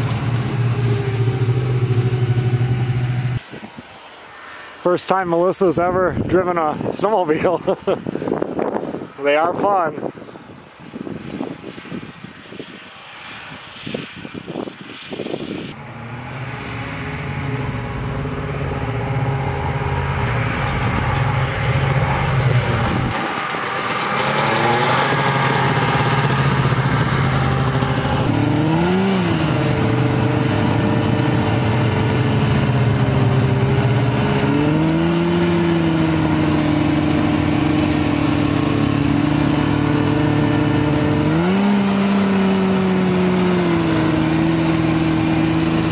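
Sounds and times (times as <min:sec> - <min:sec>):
snowmobile engine running: 0:00.0 - 0:08.3, 0:11.2 - 0:45.9.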